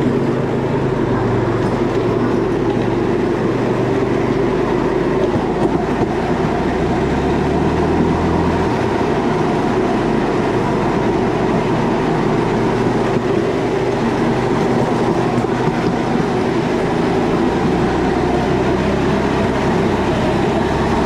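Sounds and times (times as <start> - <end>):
motorcycle engine running: 0.0 - 21.0
rail cart rail noise: 0.0 - 21.0.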